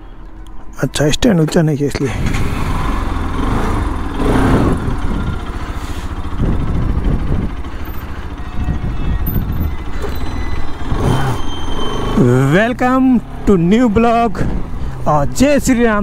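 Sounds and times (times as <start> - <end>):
motorcycle engine running: 2.2 - 15.0.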